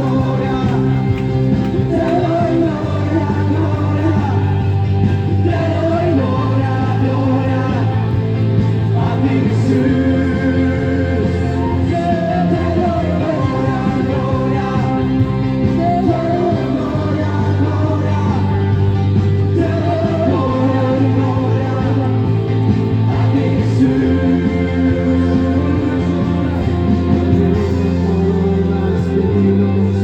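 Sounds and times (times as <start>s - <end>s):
held bass notes: 0.0s - 30.0s
singing voice: 0.0s - 30.0s.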